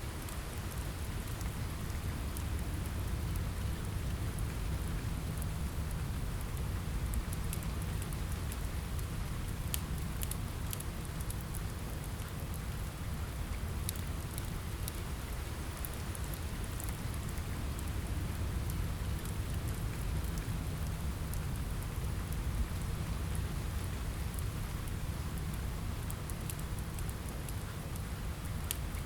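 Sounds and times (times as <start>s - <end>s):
rain on a window: 0.0s - 29.0s
wood fire crackling and popping: 0.2s - 29.0s.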